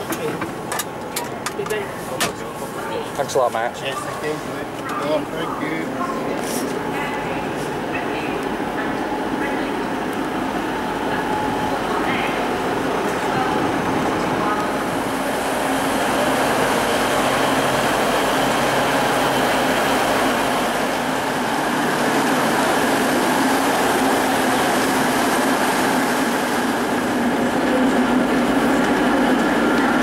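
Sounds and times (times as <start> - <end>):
passenger train running: 0.0 - 30.0.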